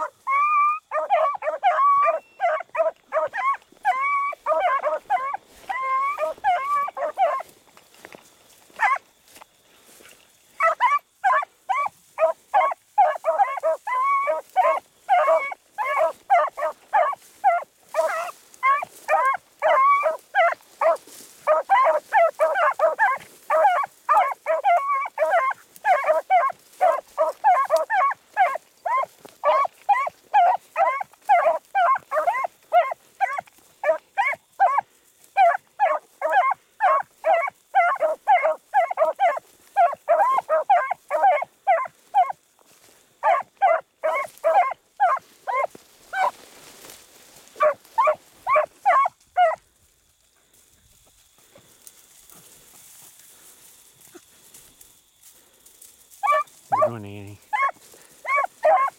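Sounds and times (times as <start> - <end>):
hounds baying: 0.0 - 58.9.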